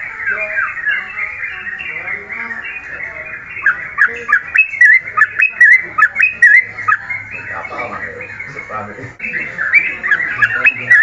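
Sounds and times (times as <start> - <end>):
overlapping bird chirps: 0.0 - 11.0.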